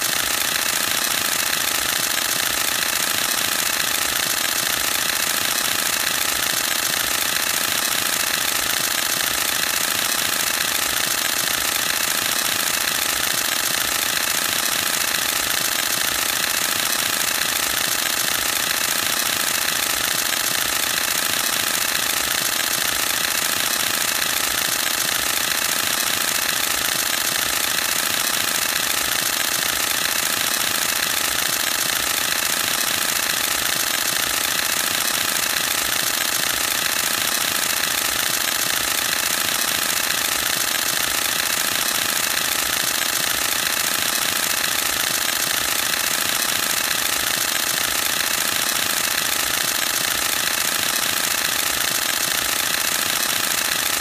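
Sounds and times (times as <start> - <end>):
camera shutter burst: 0.0 - 54.0.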